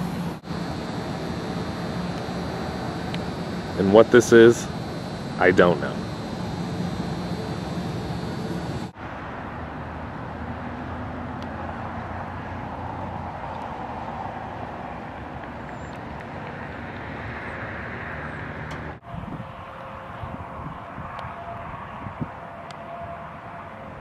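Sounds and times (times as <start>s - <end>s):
road traffic: 0.0s - 24.0s
wind: 0.0s - 24.0s.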